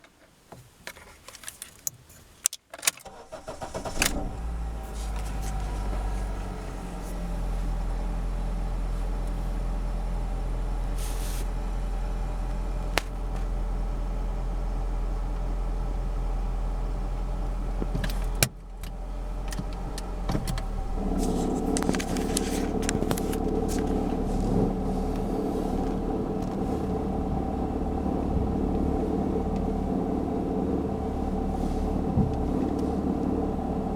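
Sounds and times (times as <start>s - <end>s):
car engine starting and running: 3.0s - 33.9s.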